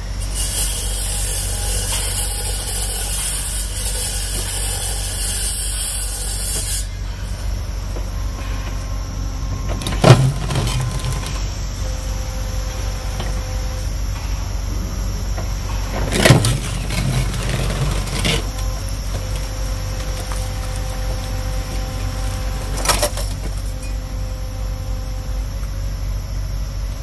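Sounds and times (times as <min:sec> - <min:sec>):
excavator engine running: 0:00.0 - 0:27.0
high hiss: 0:00.0 - 0:27.0.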